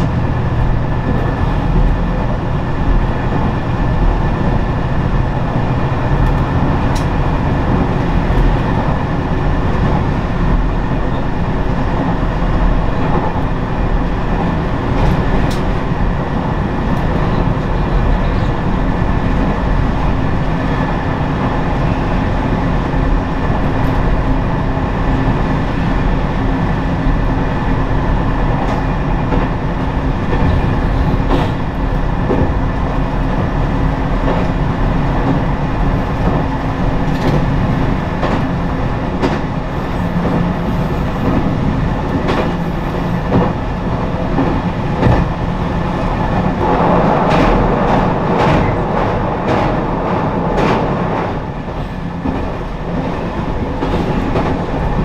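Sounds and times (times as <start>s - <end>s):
railcar engine drone: 0.0s - 55.0s
wheels clacking over rail joints: 0.0s - 55.0s.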